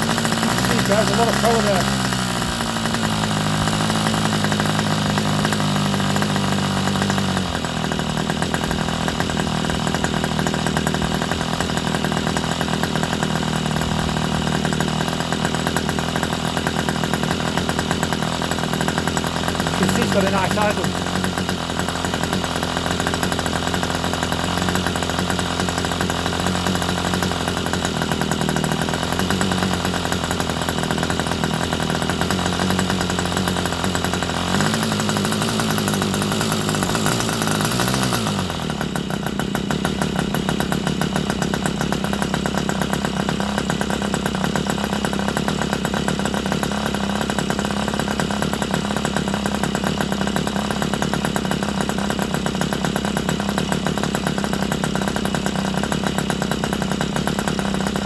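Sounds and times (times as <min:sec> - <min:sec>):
model engine idling: 0:00.0 - 0:58.0.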